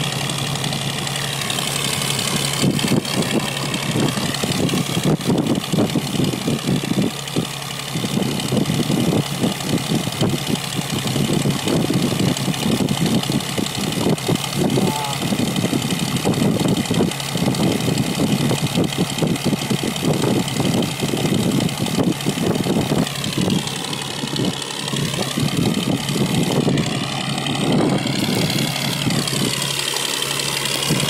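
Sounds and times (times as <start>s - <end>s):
boat engine humming: 0.0s - 31.0s
wind buffeting microphone: 2.2s - 29.8s, 30.7s - 31.0s.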